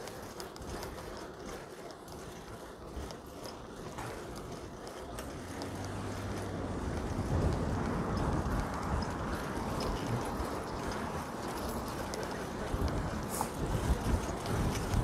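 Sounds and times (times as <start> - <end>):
bicycle rolling noise: 0.0 - 15.0.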